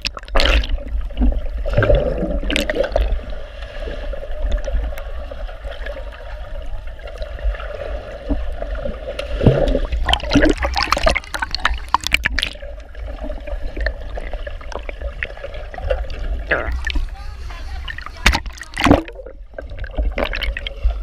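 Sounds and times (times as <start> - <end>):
muffled underwater rumble with gurgling: 0.0 - 21.0
water splashes: 0.0 - 21.0.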